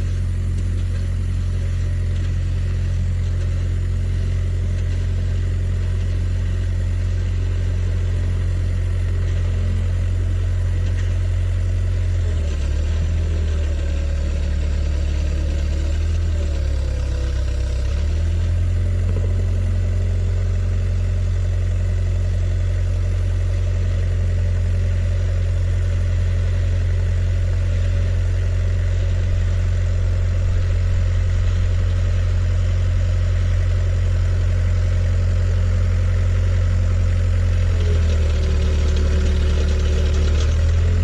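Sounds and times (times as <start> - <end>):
engine humming: 0.0 - 21.7, 27.1 - 41.0.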